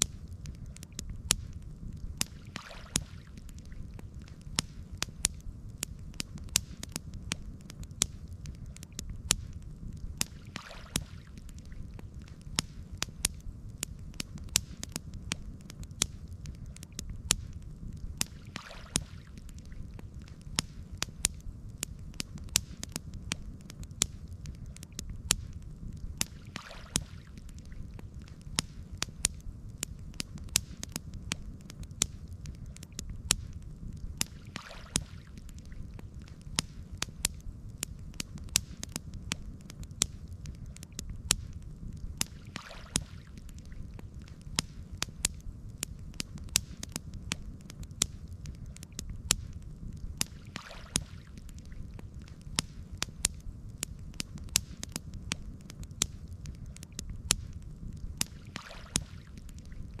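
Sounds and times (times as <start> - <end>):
campfire crackling and popping: 0.0 - 60.0
low steady rumble: 0.0 - 60.0
soft hiss: 0.0 - 60.0.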